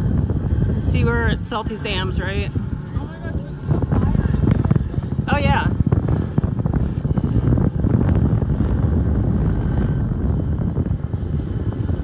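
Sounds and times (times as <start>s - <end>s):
motor rumbling with flutter: 0.0s - 12.0s.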